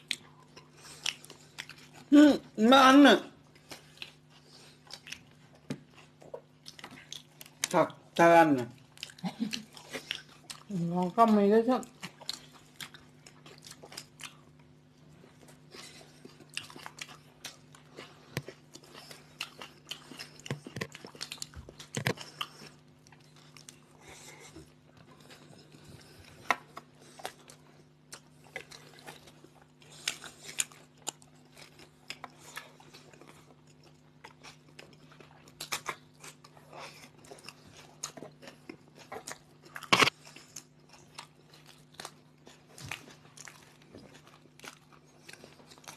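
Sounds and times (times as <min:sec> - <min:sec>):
people chewing crunchy sandwiches: 0:00.0 - 0:45.9
steady low hum: 0:00.0 - 0:45.9.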